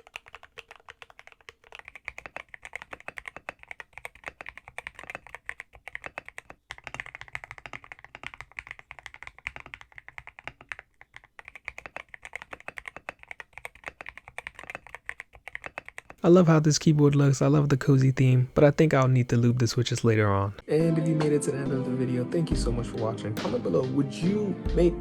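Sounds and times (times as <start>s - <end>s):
typing on mechanical keyboard: 0.0s - 20.6s.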